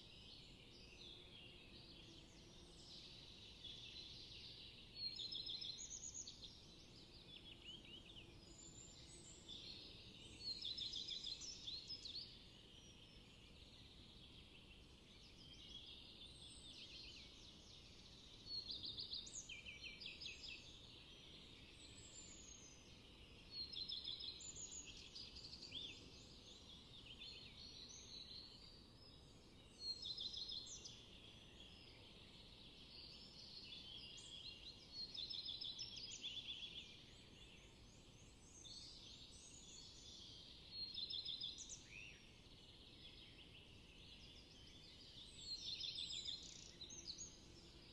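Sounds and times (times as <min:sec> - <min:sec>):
faint background hiss: 0:00.0 - 0:47.9
songbirds singing: 0:00.0 - 0:47.9.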